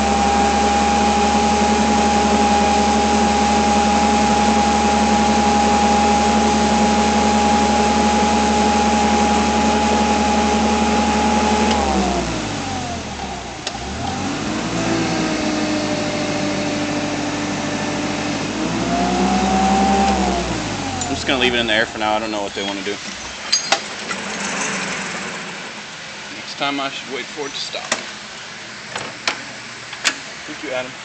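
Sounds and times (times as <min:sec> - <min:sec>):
hydraulic lift whining: 0:00.0 - 0:26.3.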